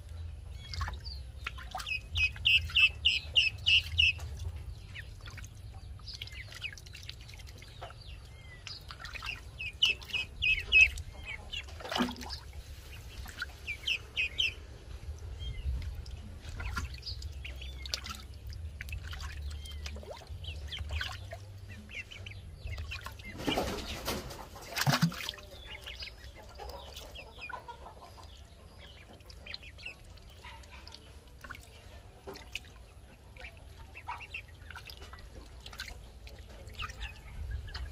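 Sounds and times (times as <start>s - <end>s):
ducklings peeping: 0.0s - 37.9s
water splashing: 0.6s - 37.9s.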